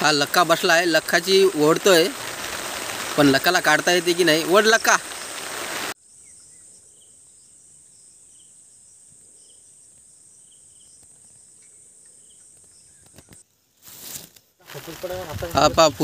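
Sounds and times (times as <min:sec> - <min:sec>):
insects droning: 0:00.0 - 0:13.4.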